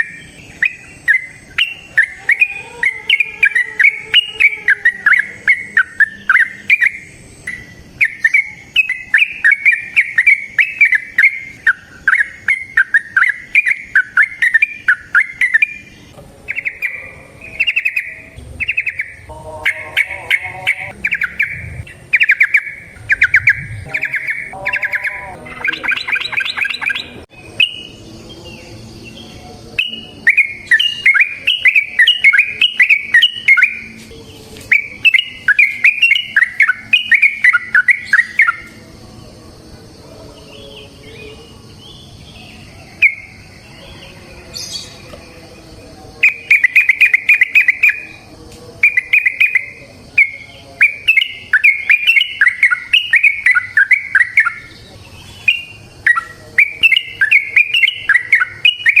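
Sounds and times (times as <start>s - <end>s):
soft bird calls: 0.0s - 28.4s, 29.2s - 38.8s, 40.6s - 59.0s
bulbul chattering song: 0.0s - 59.0s.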